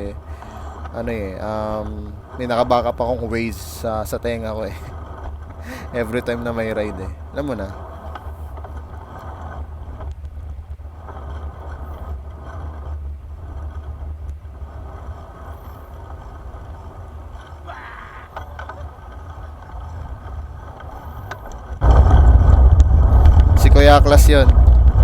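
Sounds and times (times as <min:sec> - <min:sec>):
bicycle road noise: 0:00.0 - 0:25.0
wind rumble on microphone: 0:00.0 - 0:25.0.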